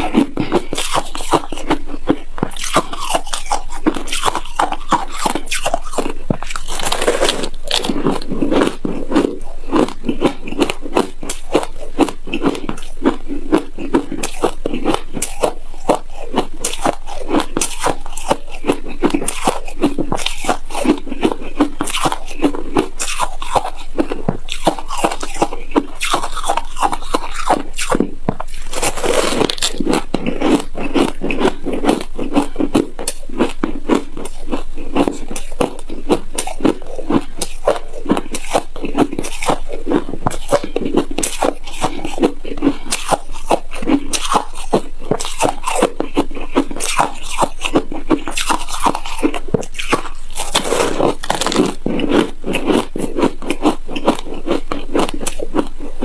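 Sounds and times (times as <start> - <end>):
chewing shaved ice crunching: 0.0 - 56.0.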